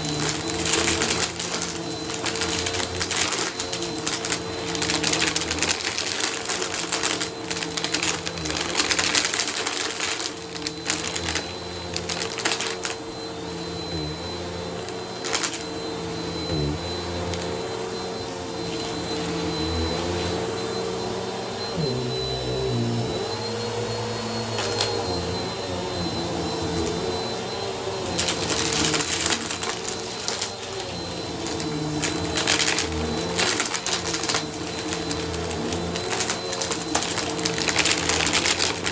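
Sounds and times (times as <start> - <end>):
vacuum cleaner motor hum: 0.0 - 38.9
vacuum crackling on rug: 0.0 - 38.9.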